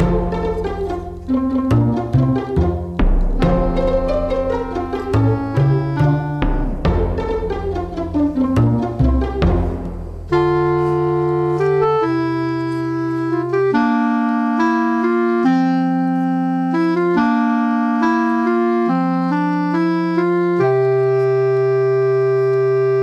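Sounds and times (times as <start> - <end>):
slow electronic keyboard music: 0.0 - 23.0.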